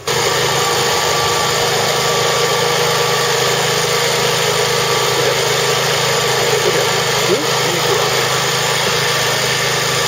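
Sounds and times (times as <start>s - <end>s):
engine running loudly: 0.0s - 10.0s.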